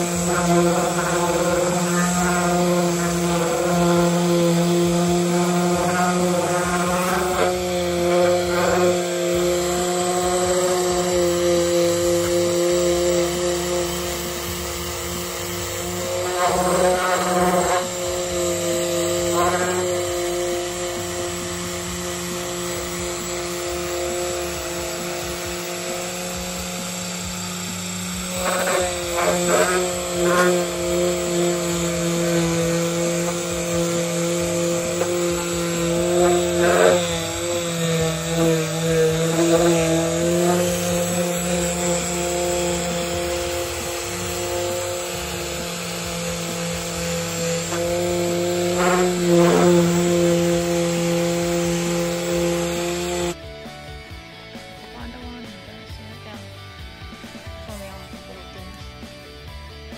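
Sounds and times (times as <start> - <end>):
sander scraping: 0.0 - 53.4
orbital sander running: 0.0 - 54.2.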